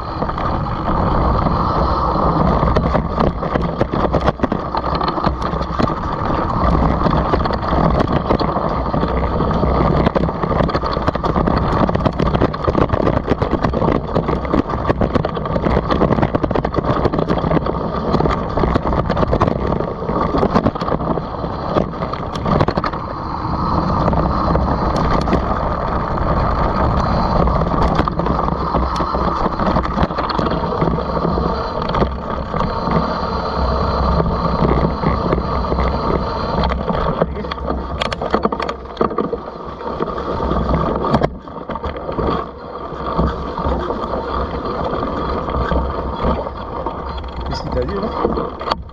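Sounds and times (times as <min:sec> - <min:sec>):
bike frame and chain rattling: 0:00.0 - 0:48.9
tyres rolling over dirt: 0:00.0 - 0:48.9.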